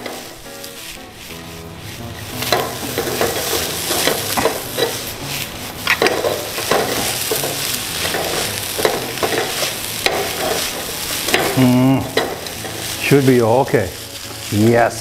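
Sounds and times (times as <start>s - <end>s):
rice sizzling in a wok: 0.0s - 15.0s
metal spatula scraping pan: 1.3s - 14.5s.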